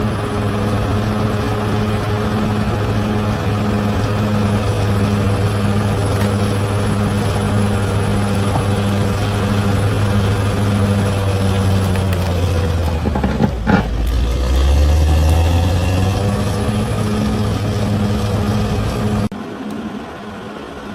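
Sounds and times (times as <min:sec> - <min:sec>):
bulldozer diesel engine droning: 0:00.0 - 0:20.9.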